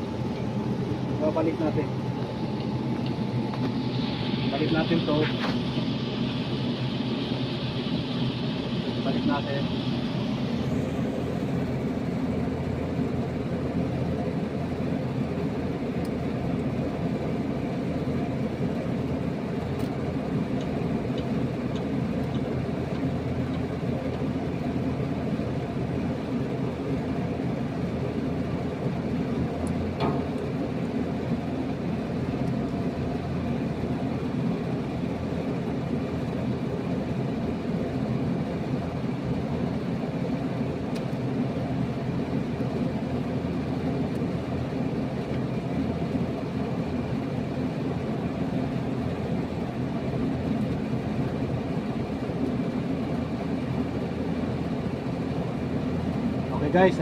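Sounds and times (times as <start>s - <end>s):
low mechanical hum: 0.0s - 57.0s.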